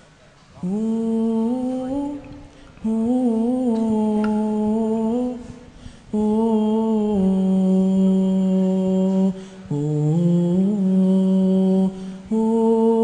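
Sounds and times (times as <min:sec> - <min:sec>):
boys humming held notes: 0:00.6 - 0:13.0.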